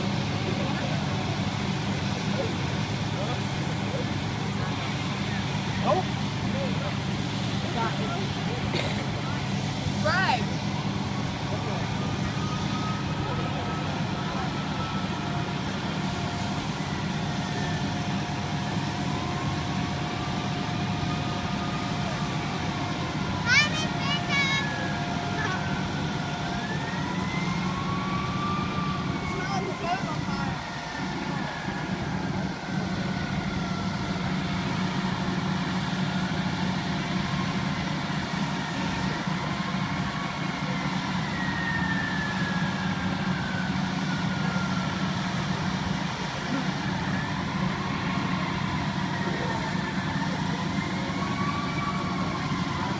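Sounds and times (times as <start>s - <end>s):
diesel engine droning: 0.0s - 52.9s
distant siren: 0.0s - 52.9s.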